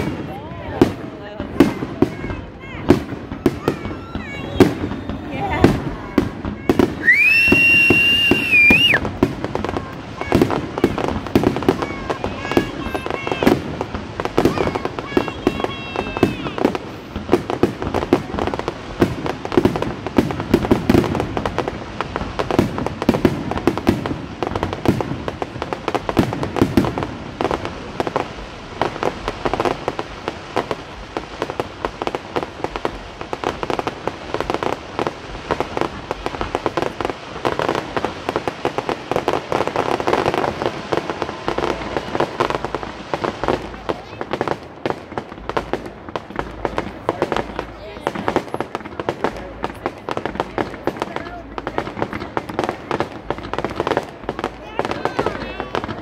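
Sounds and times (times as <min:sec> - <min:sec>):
fireworks popping and crackling: 0:00.0 - 0:56.0.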